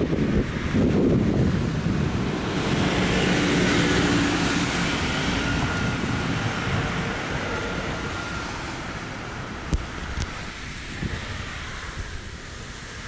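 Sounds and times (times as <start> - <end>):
bus passing: 0.0 - 13.0
cars passing: 0.0 - 13.0.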